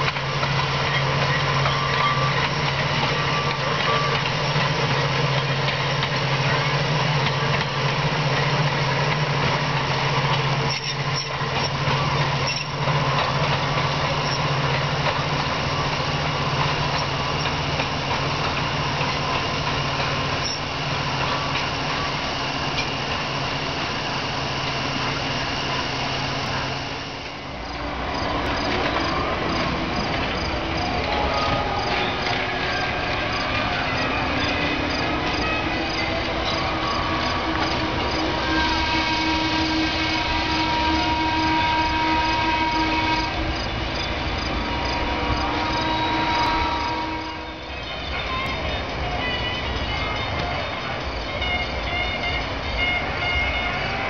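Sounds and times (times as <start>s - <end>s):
streetcar rumbling with low hum: 0.0s - 54.0s
crickets chirping: 9.6s - 54.0s.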